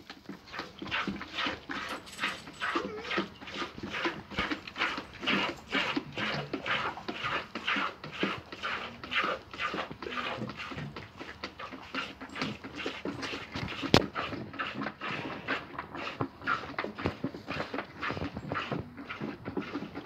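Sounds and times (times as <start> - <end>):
wet rasping licking: 0.2 - 20.0.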